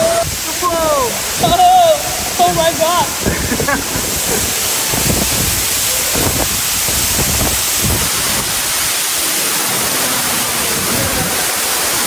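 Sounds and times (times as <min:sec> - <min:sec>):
low rumbling surges: 0:00.0 - 0:12.0
waterfall rushing: 0:00.0 - 0:12.0.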